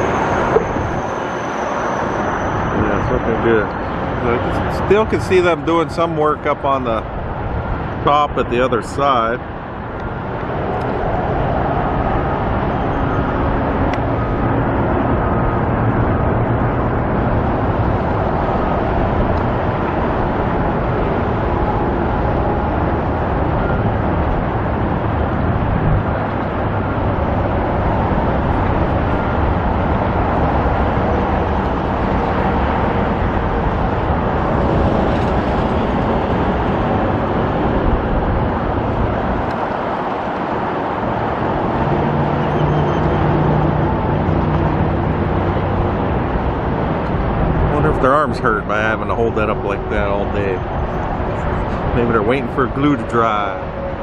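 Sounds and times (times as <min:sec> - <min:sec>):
engine low hum: 0:00.0 - 0:54.0
road traffic: 0:00.0 - 0:54.0.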